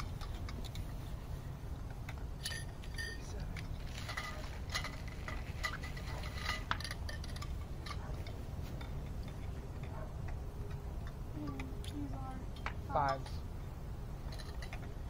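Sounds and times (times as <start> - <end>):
metal tubes clicking and clinking: 0.0 - 1.1, 1.8 - 13.4, 14.2 - 15.0
low background rumble: 0.0 - 15.0.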